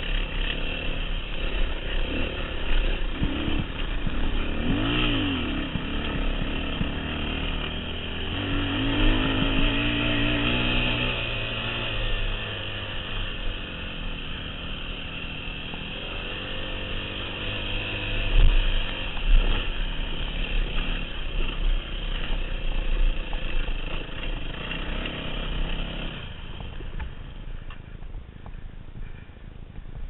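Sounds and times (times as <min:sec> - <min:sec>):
dirt bike engine running: 0:00.0 - 0:29.3.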